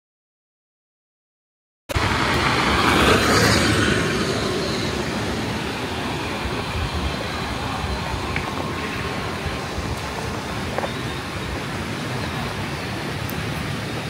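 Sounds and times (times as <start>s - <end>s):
vehicle travel and wind rushing: 1.9s - 14.0s.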